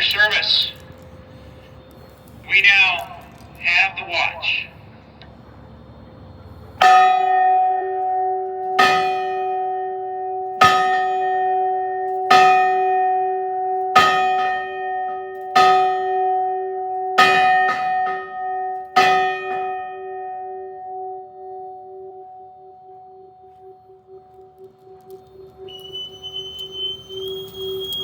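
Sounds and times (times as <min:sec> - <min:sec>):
ship's bell ringing: 0:00.0 - 0:05.0, 0:06.8 - 0:28.0.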